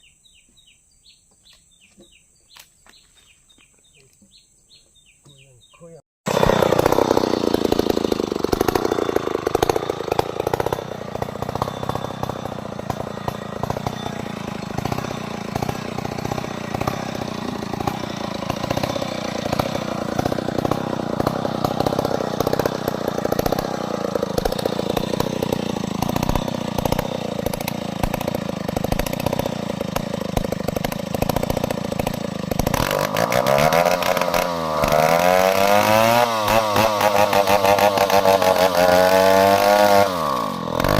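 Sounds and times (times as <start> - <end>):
chainsaw cutting through log: 6.3 - 40.9.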